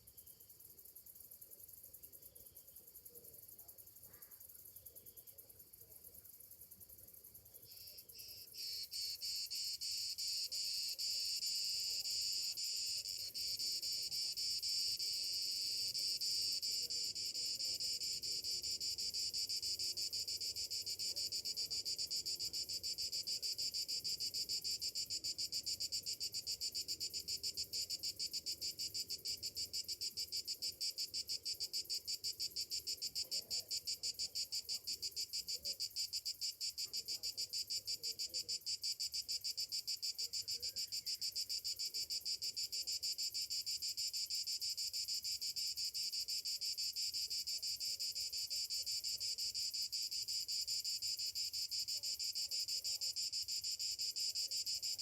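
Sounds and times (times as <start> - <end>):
cicadas buzzing: 7.7 - 55.0.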